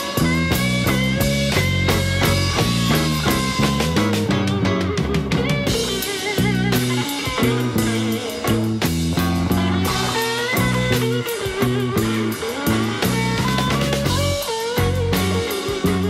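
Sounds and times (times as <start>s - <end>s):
bass: 0.0s - 16.0s
drums: 0.0s - 16.0s
electric guitars playing blues: 0.0s - 16.0s.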